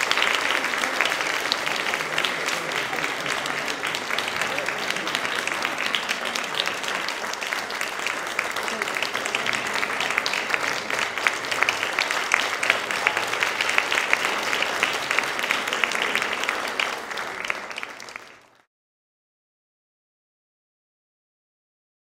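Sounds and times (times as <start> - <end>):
audience applauding: 0.0 - 18.7.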